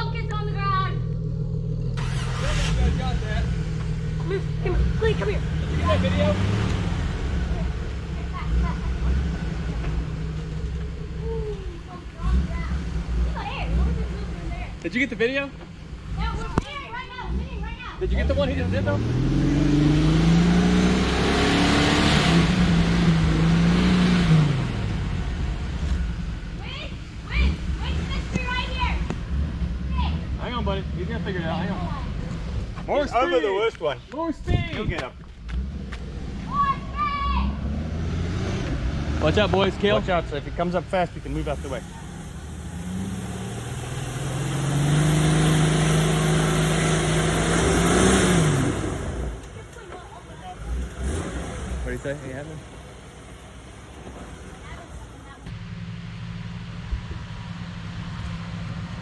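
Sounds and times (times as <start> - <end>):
engine revving under load: 0.0 - 33.4, 35.4 - 55.6.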